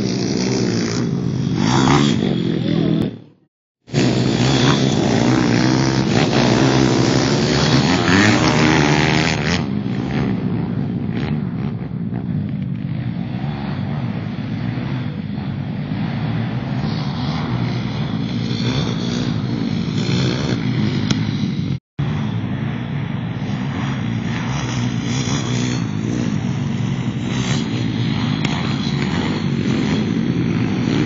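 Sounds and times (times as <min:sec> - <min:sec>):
distant pit bike engines: 0:00.0 - 0:31.0
pit bike engine revving: 0:00.0 - 0:31.0.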